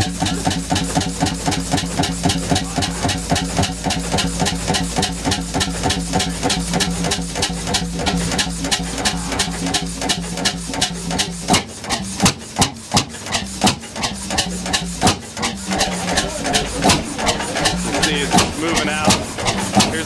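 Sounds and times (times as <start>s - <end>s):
low engine hum: 0.0s - 12.4s, 14.2s - 20.0s
stationary engine knocking: 0.0s - 20.0s.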